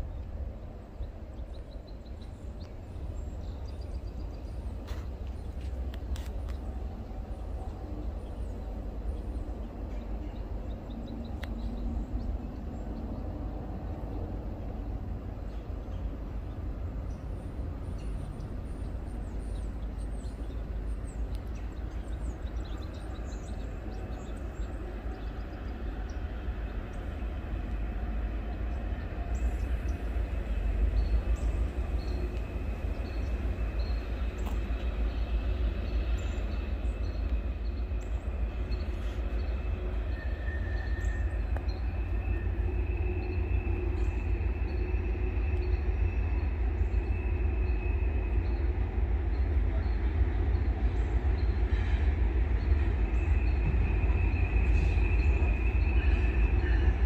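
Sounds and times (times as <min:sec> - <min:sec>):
freight train rumbling on rails: 0:00.0 - 0:57.0.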